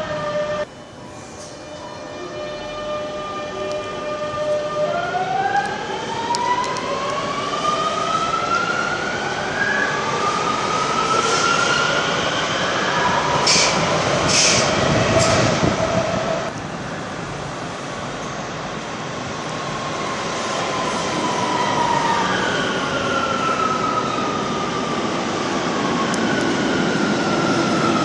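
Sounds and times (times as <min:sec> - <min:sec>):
metro train motor whine: 0:00.0 - 0:28.0.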